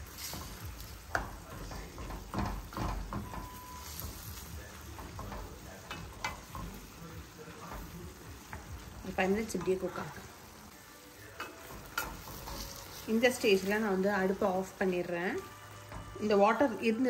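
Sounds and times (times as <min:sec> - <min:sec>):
spoon scraping a pan: 0:00.0 - 0:10.6, 0:11.2 - 0:16.8
food sizzling in a pan: 0:00.0 - 0:17.0.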